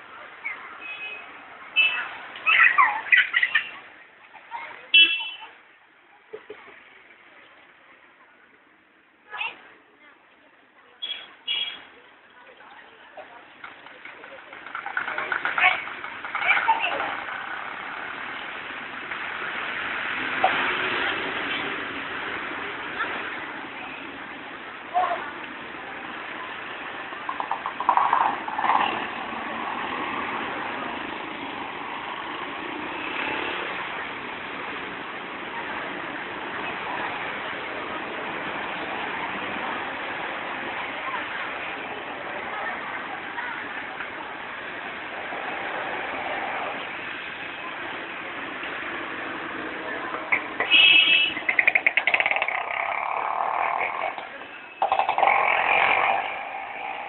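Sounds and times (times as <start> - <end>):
crowd noise: 0.0 - 57.0
passing traffic hum: 0.0 - 57.0.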